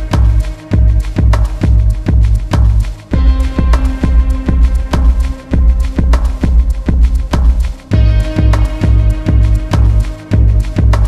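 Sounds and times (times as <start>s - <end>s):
music with driving beat: 0.0s - 11.0s.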